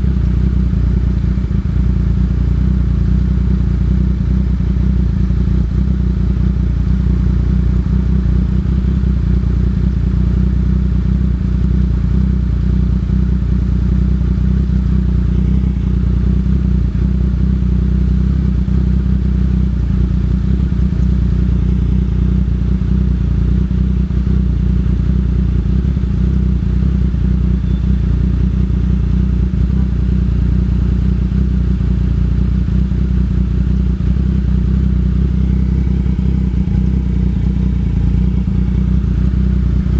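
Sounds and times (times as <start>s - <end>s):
motorcycle engine deep drone: 0.0s - 39.9s.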